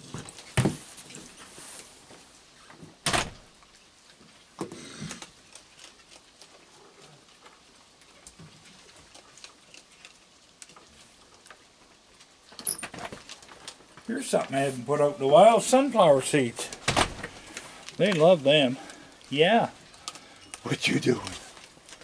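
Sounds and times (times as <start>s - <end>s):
animals crunching dry food: 3.5s - 22.0s.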